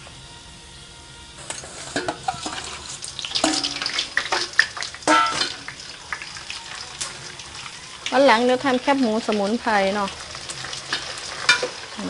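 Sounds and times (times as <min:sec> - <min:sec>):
ladle stirring in wok: 0:01.4 - 0:09.4, 0:10.1 - 0:12.0
pork skin frying in hot oil: 0:01.4 - 0:12.0.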